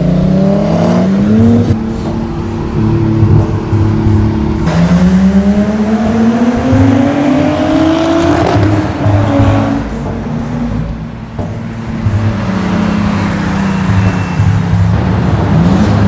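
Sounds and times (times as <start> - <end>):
background music: 0.0 - 16.0
car engine accelerating: 0.0 - 16.0.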